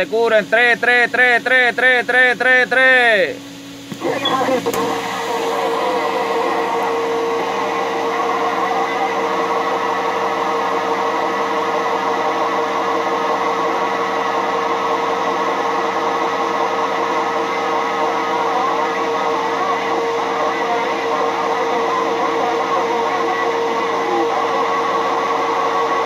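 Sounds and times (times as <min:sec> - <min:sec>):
radio speaker hiss and hum: 0:00.0 - 0:26.0.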